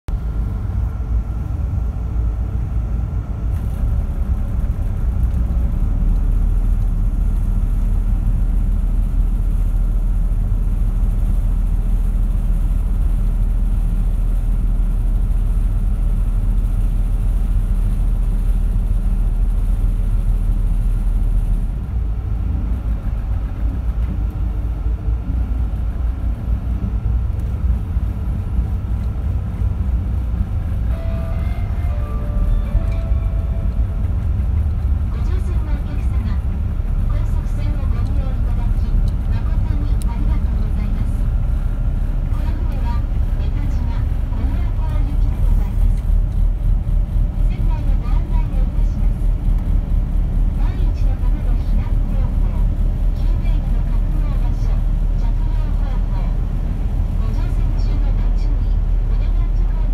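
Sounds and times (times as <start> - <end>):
boat engines rumbling: 0.1 - 59.9.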